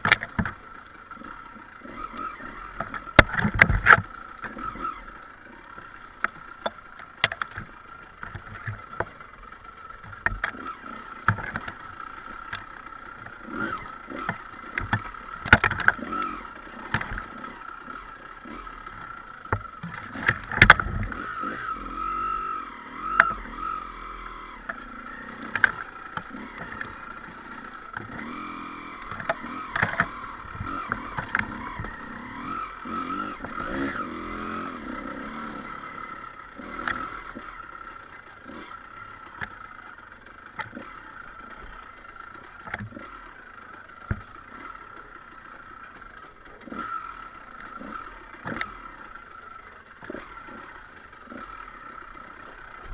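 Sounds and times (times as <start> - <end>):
bike knocking and clattering: 0.0 - 0.8, 1.8 - 23.8, 24.5 - 37.8, 38.5 - 49.2, 50.0 - 52.9
motorcycle engine rising and falling: 0.0 - 52.9.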